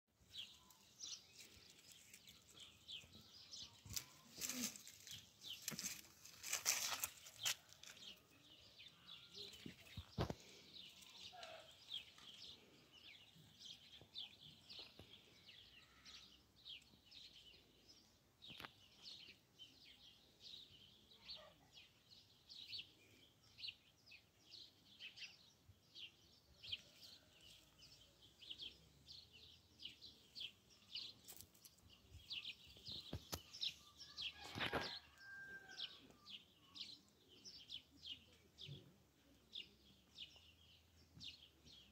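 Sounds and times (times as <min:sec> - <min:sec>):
small birds chirping: 0:00.1 - 0:41.9.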